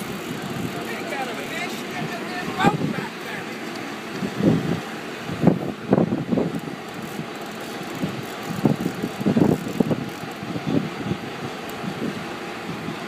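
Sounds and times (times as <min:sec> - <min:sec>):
boat engine drone: 0:00.0 - 0:13.0
wind buffeting microphone: 0:00.0 - 0:13.0.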